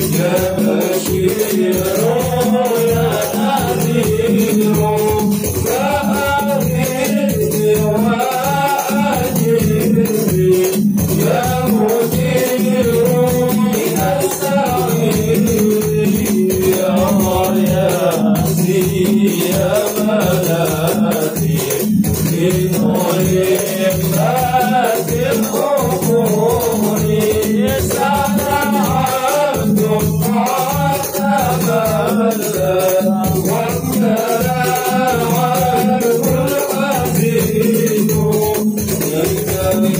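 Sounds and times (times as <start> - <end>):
hand percussion beat: 0.0 - 39.9
men chanting through pa: 0.0 - 39.9.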